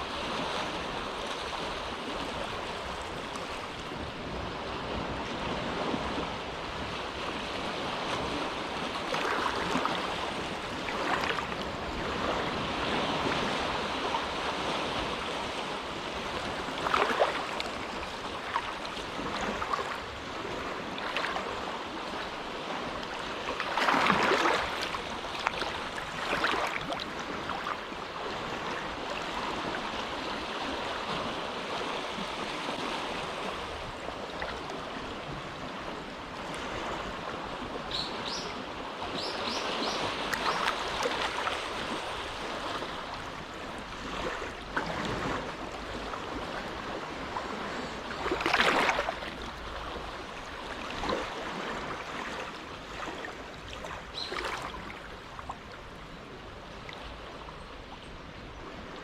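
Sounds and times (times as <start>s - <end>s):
small waves lapping at shore: 0.0s - 59.0s
waves splashing: 0.0s - 59.0s.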